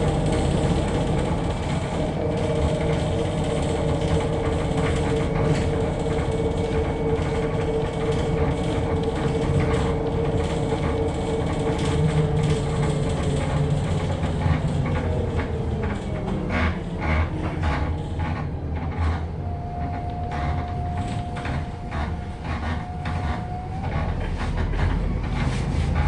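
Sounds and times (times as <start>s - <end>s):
body panels rattling and creaking: 0.0s - 26.0s
bus drivetrain whine: 0.0s - 26.0s.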